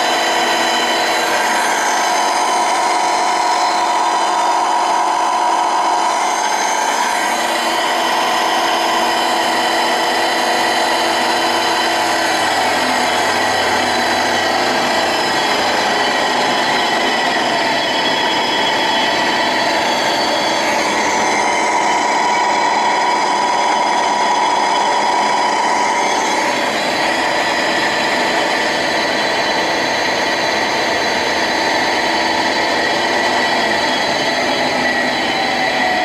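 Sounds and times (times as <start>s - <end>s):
milling machine motor whining: 0.0s - 36.0s.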